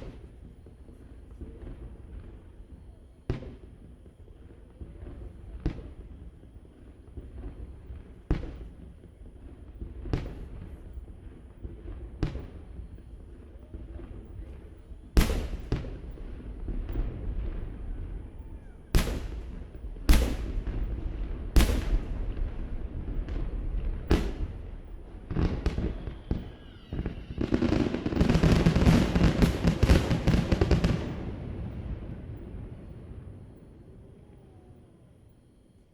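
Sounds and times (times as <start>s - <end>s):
fireworks booming: 0.0s - 34.7s.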